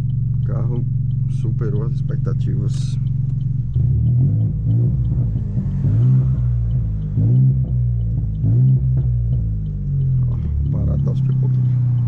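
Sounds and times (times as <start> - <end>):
car engine accelerating: 0.0 - 12.0
faint regular ticking: 0.0 - 12.0.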